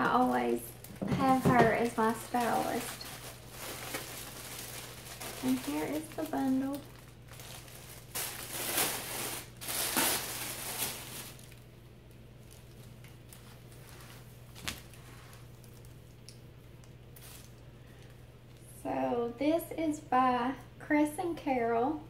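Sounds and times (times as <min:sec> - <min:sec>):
packaging rustling and crinkling: 0:00.1 - 0:18.6.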